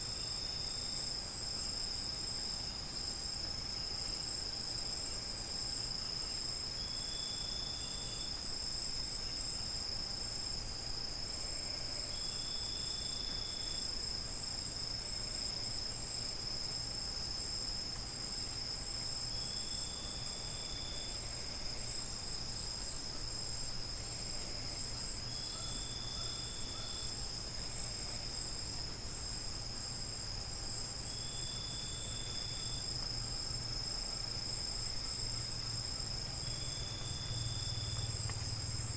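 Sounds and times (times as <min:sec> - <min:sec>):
crickets chirping: 0:00.0 - 0:38.9
short low insect trill: 0:00.0 - 0:38.9.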